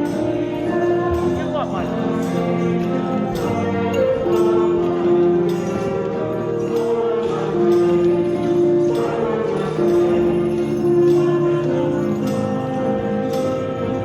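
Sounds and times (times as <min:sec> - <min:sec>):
hymn accompaniment with held notes: 0:00.0 - 0:14.0
tambourines and jingle bells shaken: 0:00.0 - 0:14.0.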